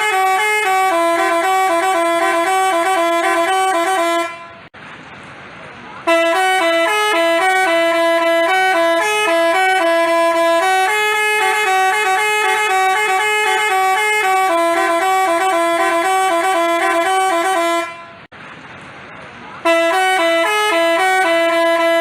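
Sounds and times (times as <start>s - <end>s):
bus horn playing a tune: 0.0s - 4.7s, 6.0s - 18.3s, 19.6s - 22.0s.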